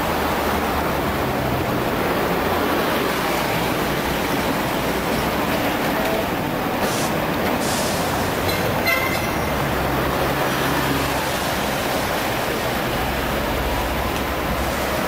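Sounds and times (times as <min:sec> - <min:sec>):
trams and bus passing: 0:00.0 - 0:15.0.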